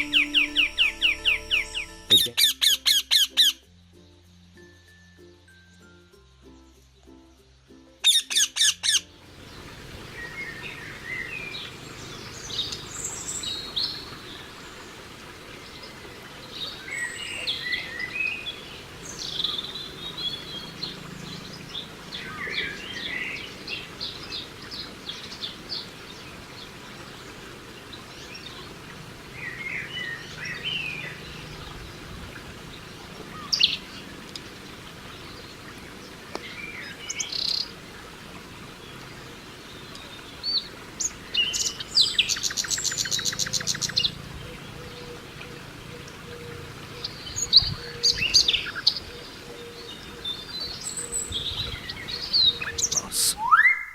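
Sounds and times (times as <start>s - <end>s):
birds chirping and trilling: 0.0s - 4.2s, 8.0s - 53.9s
outdoor background hiss: 0.0s - 53.9s.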